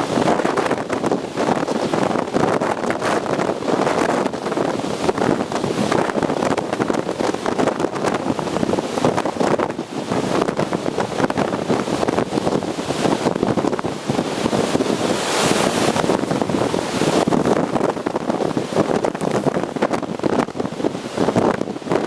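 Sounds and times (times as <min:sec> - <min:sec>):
waves breaking on shore: 0:00.0 - 0:22.0
wind buffeting microphone: 0:00.0 - 0:22.0.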